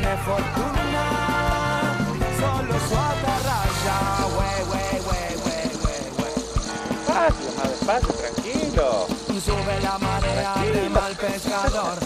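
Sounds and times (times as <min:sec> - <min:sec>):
song with drum beat and singing: 0:00.0 - 0:12.0.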